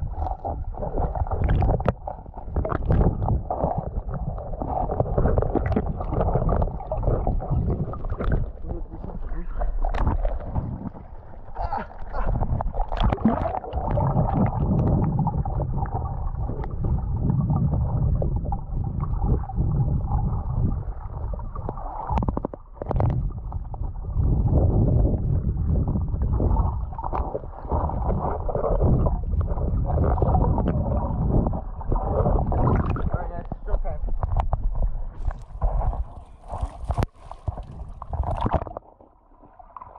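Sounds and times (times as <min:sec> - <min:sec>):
underwater river rumble and gurgling: 0:00.0 - 0:39.9.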